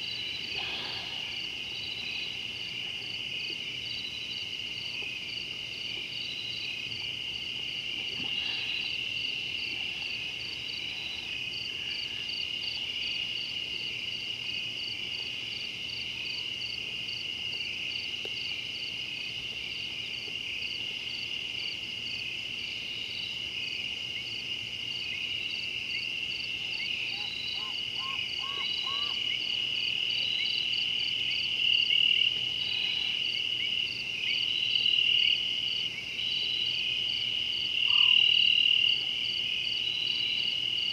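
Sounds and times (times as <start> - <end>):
crickets and insects chorus: 0.0 - 40.9
pulsing insect chirp: 0.0 - 40.9.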